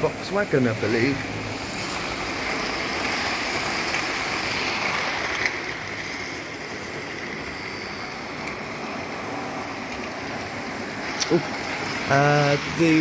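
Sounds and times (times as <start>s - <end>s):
model train motors whirring: 0.0s - 13.0s
wheels running over rails: 0.0s - 13.0s.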